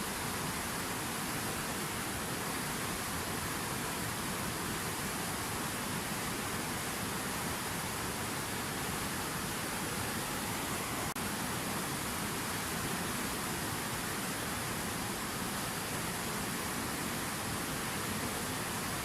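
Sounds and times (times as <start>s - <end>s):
fountain water rushing: 0.0s - 19.0s.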